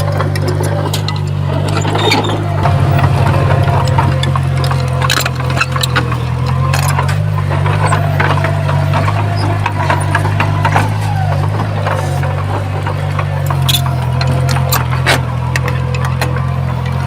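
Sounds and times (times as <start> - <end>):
heavy machinery diesel engine running: 0.0 - 17.0
metallic clanks and rattles: 0.0 - 17.0.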